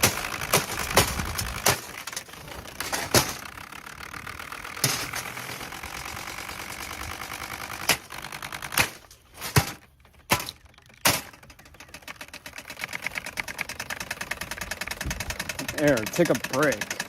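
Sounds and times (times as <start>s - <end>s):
box fan rattling: 0.0s - 17.0s.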